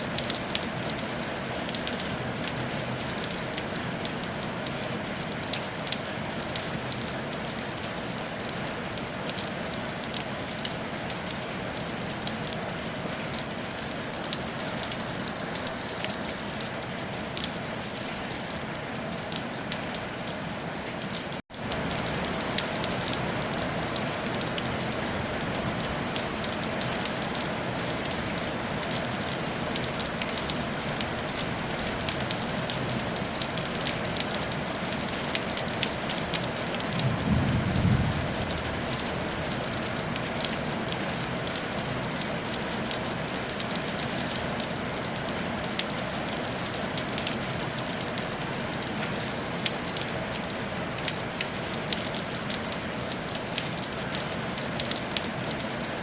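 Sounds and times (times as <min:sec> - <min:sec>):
rain on a tile roof: 0:00.0 - 0:56.0.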